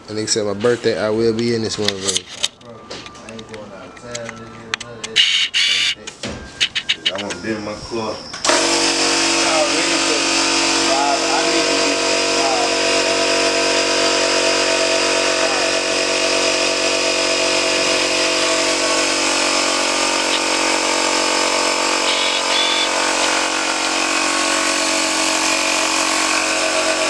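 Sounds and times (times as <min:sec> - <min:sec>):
machine humming and whining: 0:02.5 - 0:27.0.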